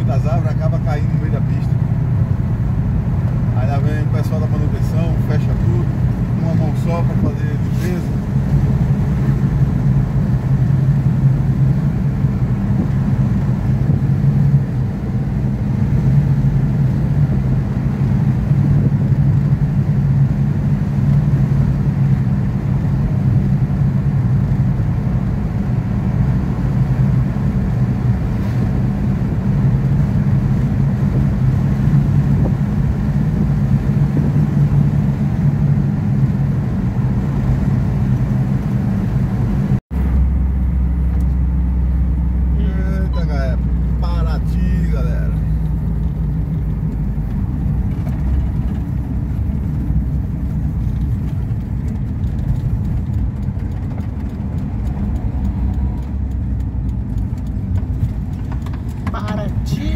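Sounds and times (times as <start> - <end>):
tyre and road noise: 0.0 - 59.9
van engine humming: 0.0 - 59.9.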